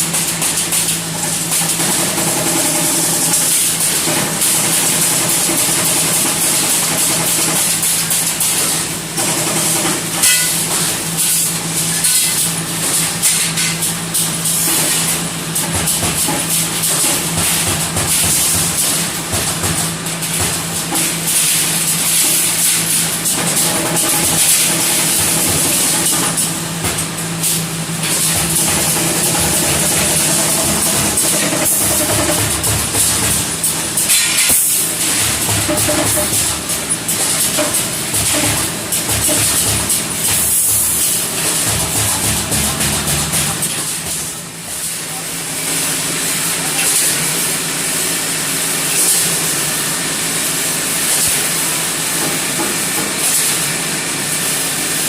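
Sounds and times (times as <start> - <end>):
spot welder humming and hissing: 0.0 - 55.0.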